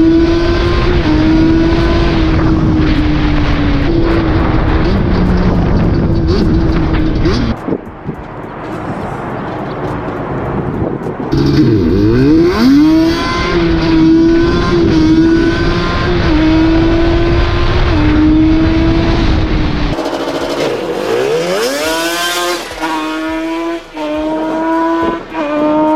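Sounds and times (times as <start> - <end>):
car engine and exhaust revving: 0.0 - 25.9.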